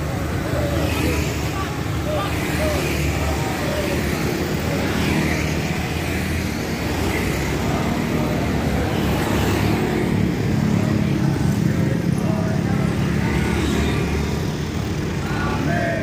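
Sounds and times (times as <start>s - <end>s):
motor scooters riding past: 0.0s - 16.0s
street traffic noise: 0.0s - 16.0s.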